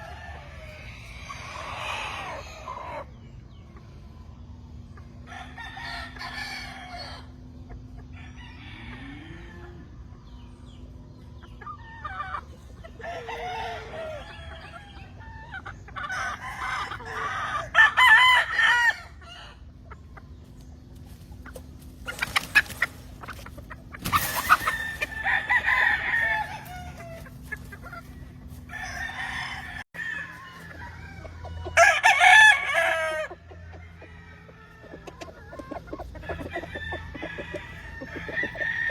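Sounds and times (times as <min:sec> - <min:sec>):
roosters crowing: 0:00.0 - 0:03.5, 0:04.6 - 0:10.8, 0:11.4 - 0:20.0, 0:21.0 - 0:38.9
chickens clucking: 0:00.0 - 0:38.9.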